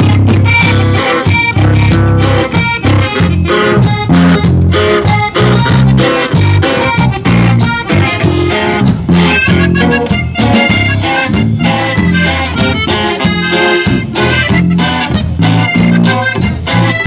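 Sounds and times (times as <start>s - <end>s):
band playing instrumental music: 0.0s - 17.0s.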